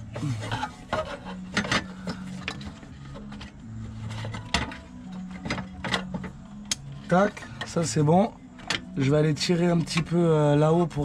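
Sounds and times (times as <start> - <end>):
plastic rubbing: 0.0 - 9.0.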